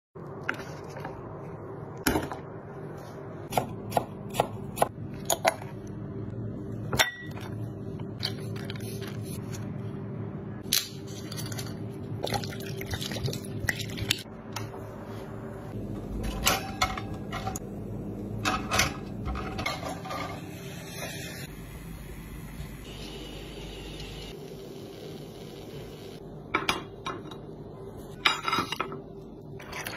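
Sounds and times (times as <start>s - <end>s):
steady low hum: 1.1s - 29.7s.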